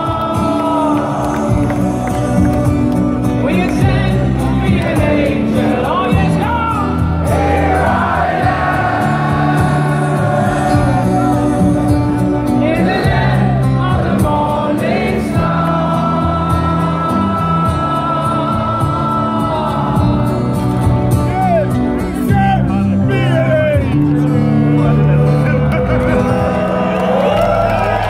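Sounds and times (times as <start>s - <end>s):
man singing: 0.0s - 27.0s
guitar chords: 0.0s - 28.0s.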